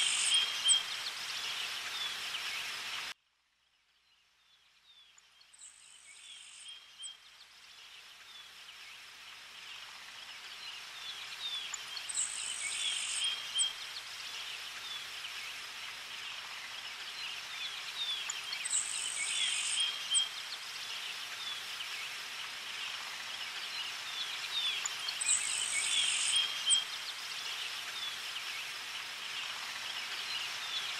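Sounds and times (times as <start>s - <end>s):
insects chirping: 0.0s - 2.8s, 5.1s - 30.9s.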